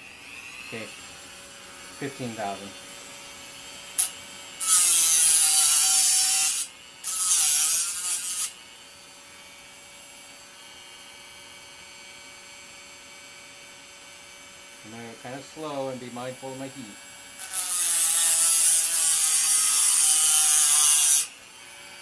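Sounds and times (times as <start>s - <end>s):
rotary tool motor hum: 0.0s - 22.0s.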